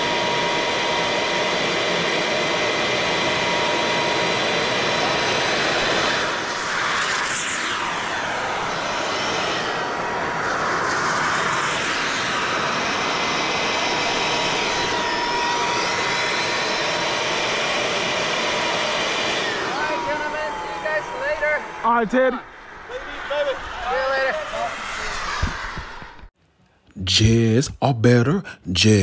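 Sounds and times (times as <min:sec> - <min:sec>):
model jet turbines running: 0:00.0 - 0:26.2.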